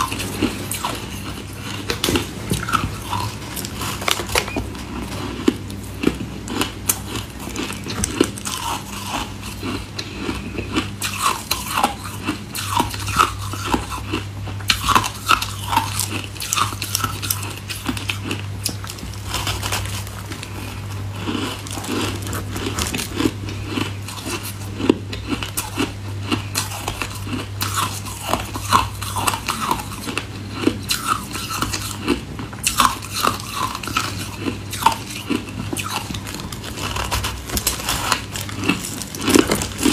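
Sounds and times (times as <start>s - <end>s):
person crunching ice: 0.0s - 30.2s, 32.6s - 39.9s.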